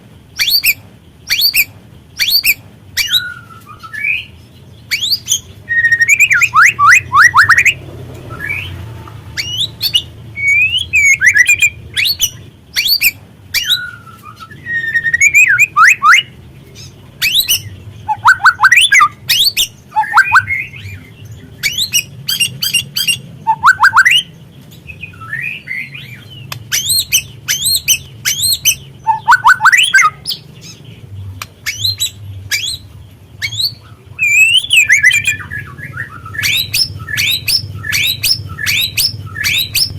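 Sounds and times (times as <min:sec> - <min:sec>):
bird harsh chattering calls: 0:00.3 - 0:39.9.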